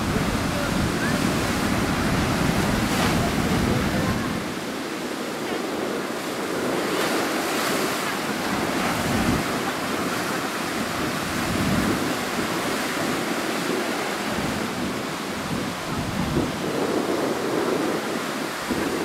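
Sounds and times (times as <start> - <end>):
surf breaking over rocks: 0.0 - 19.0
wind buffeting microphone: 0.0 - 19.0.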